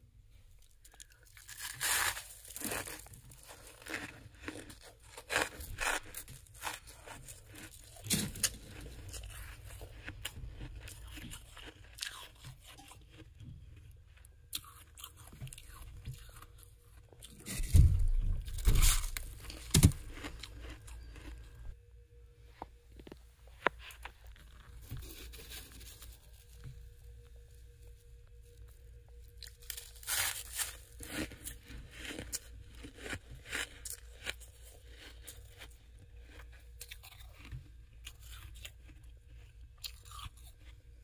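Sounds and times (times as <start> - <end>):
frost crunching and scraping: 0.6 - 21.8, 22.6 - 40.9.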